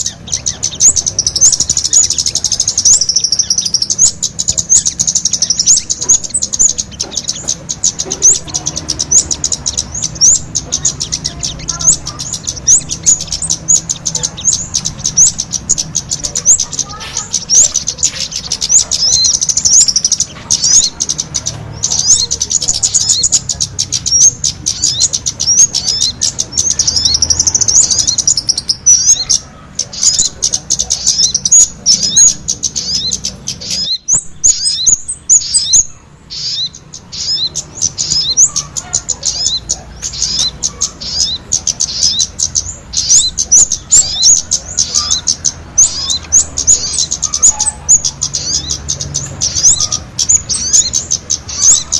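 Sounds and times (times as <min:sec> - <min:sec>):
high-pitched bird chirping: 0:00.0 - 0:51.9.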